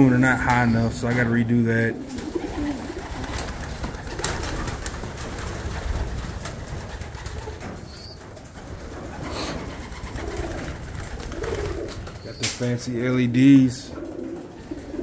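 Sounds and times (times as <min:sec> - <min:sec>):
pigeons cooing: 0:00.0 - 0:12.7, 0:13.6 - 0:15.0.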